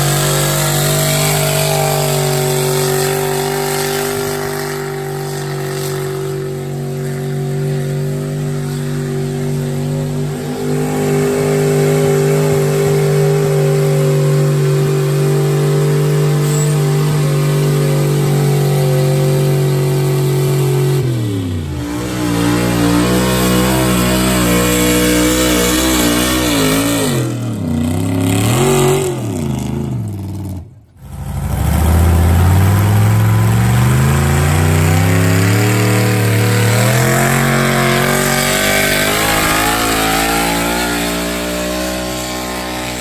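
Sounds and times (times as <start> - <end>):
truck engine at high revs: 0.0 - 43.0.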